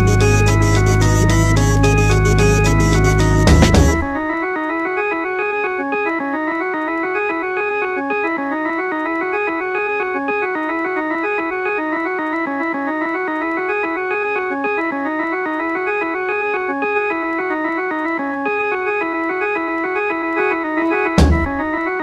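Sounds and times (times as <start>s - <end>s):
electronic keyboard tune: 0.0s - 22.0s.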